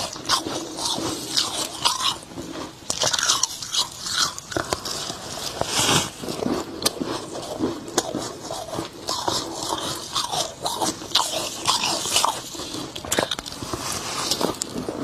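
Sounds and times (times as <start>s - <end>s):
chewing crunchy frost: 0.0s - 15.0s.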